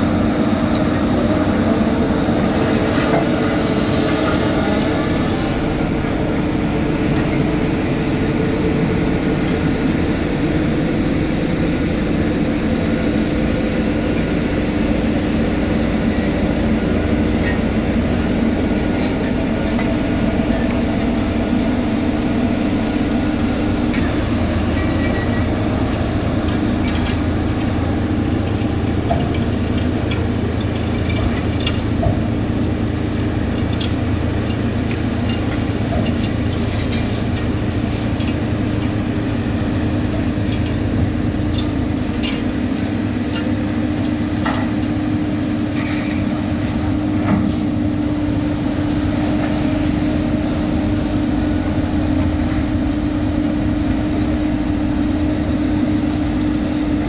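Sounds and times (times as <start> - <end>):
diesel engines of paving machinery: 0.0 - 57.0.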